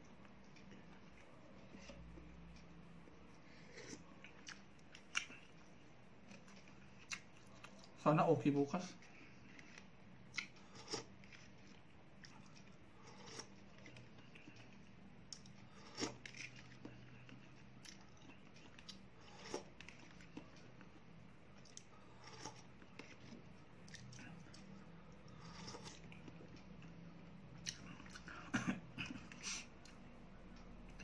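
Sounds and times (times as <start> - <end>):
low room hum: 0.0 - 31.0.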